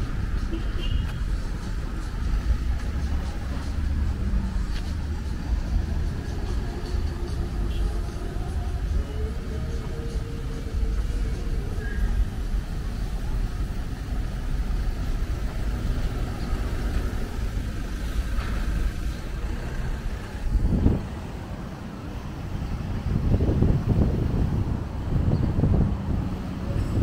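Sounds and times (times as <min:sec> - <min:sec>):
motor traffic rumble: 0:00.0 - 0:27.0.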